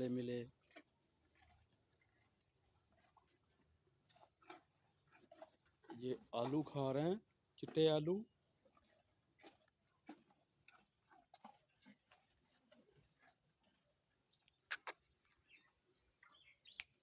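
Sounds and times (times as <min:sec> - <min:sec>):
cattle chewing potatoes: 0:00.0 - 0:17.0.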